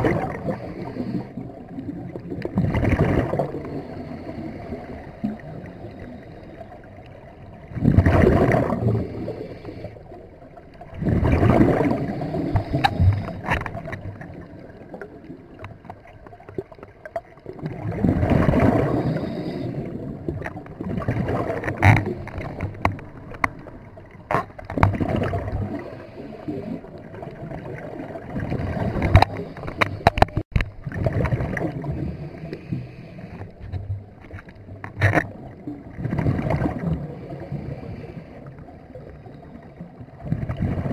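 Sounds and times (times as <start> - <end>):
underwater bubbles from regulator: 0.0 - 40.9.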